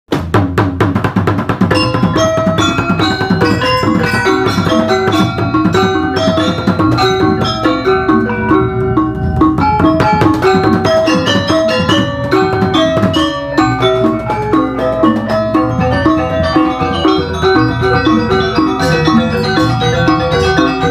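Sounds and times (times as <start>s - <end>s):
drums: 0.1s - 20.9s
mallet percussion music: 1.3s - 20.9s.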